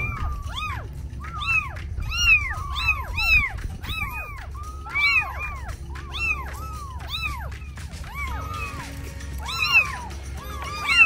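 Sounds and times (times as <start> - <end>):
kittens mewing: 0.0 - 11.0.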